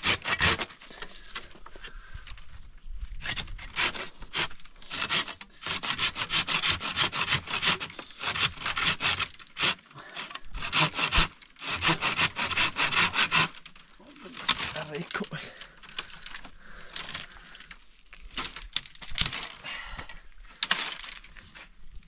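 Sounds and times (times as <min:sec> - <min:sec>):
hand saw cutting wooden branches: 0:00.0 - 0:01.5, 0:03.2 - 0:19.6.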